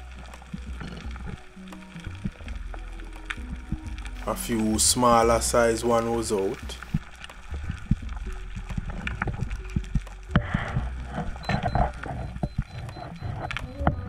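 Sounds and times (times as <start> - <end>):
underwater rumble of moving water: 0.0 - 14.0.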